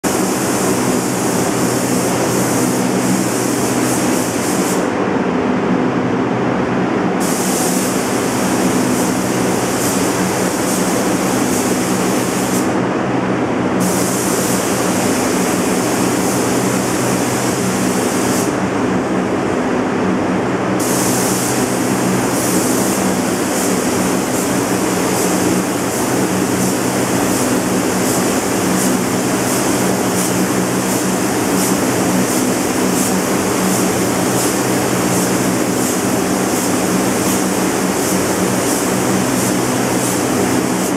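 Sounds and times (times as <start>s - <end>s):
fans rushing air: 0.0s - 40.9s
steady low hum: 0.0s - 40.9s.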